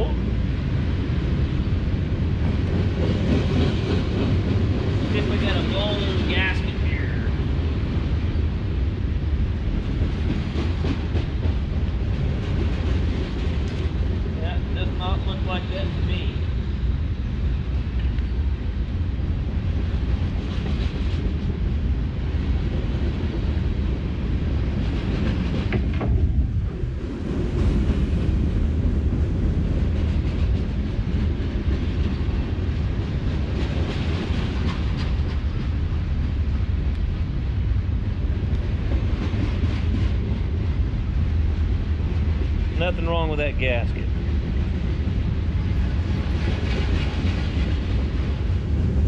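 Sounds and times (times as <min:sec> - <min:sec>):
train passing with low rumble: 0:00.0 - 0:49.0.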